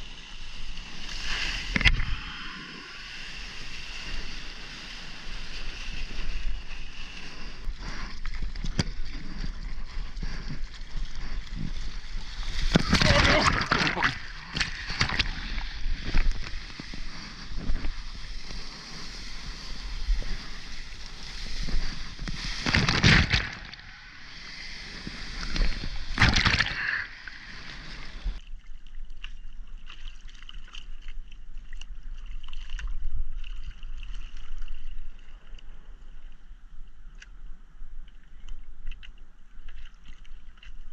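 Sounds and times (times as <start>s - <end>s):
water lapping with drips: 0.0s - 24.0s, 24.8s - 37.4s, 38.0s - 40.9s.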